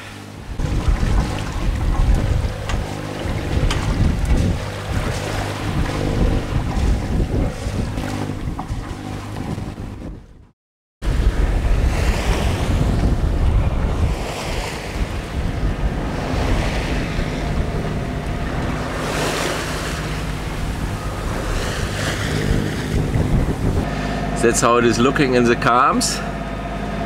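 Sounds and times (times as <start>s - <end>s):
water splashing along hull: 0.0s - 27.0s
diesel engine humming: 0.1s - 10.5s, 14.9s - 27.0s.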